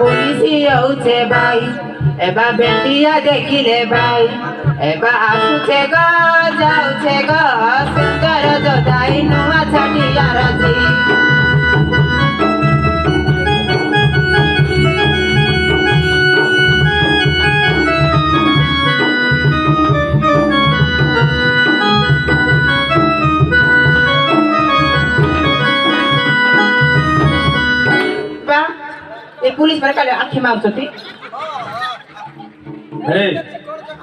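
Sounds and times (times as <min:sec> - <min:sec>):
electronic keyboard melody: 0:00.0 - 0:29.5.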